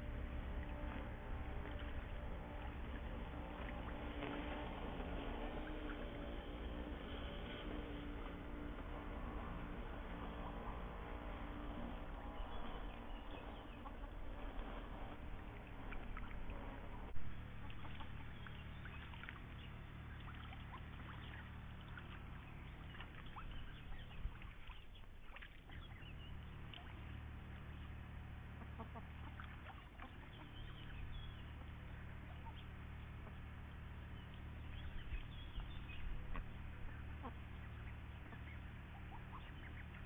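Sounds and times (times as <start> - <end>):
ducks calling softly: 0.0 - 40.0.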